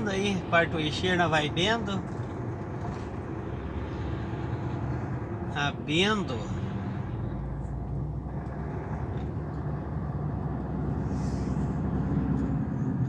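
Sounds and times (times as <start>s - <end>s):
road and tyre rumble: 0.0s - 13.0s
truck engine running: 0.0s - 13.0s.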